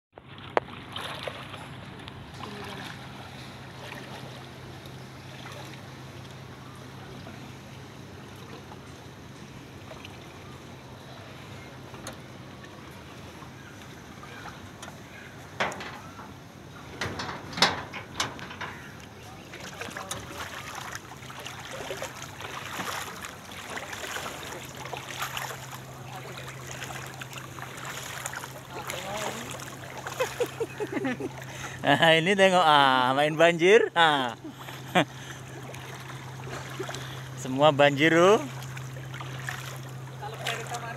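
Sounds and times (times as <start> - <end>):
floodwater flowing: 0.1 - 40.9
water sloshing and splashing: 0.1 - 40.9
steady low hum: 0.3 - 40.9.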